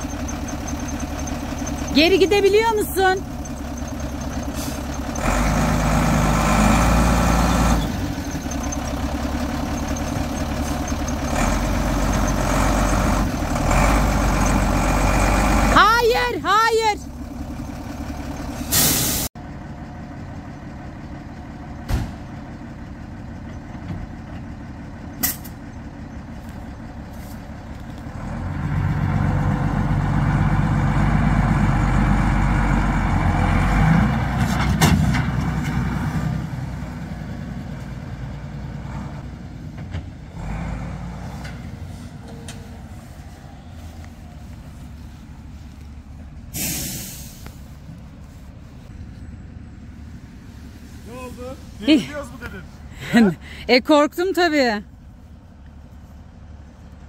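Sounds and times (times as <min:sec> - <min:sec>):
vehicle engine driving off-road: 0:00.0 - 0:57.0.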